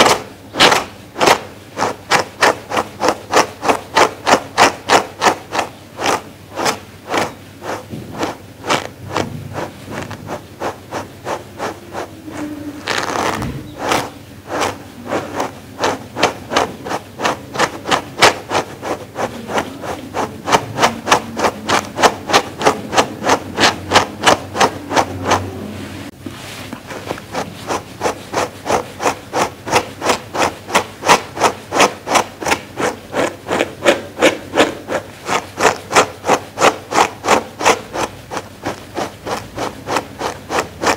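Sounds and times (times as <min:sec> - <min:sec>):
brush scratching through fur: 0:00.0 - 0:40.9.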